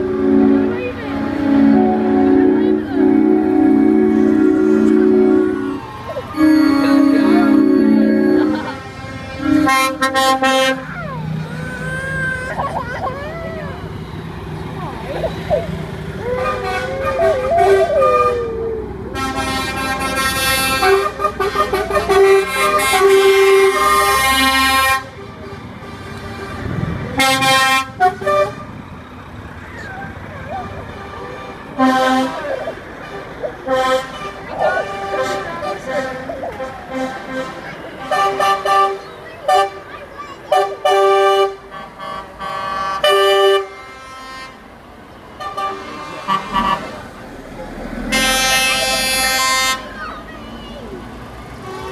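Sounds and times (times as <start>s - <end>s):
truck horns honking: 0.0s - 51.9s.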